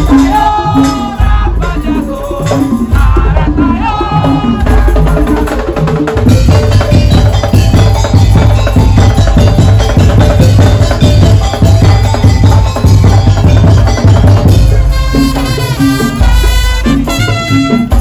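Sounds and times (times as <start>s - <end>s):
fast drum and slit drum rhythm: 0.0s - 18.0s
heavy bass drum: 0.0s - 18.0s.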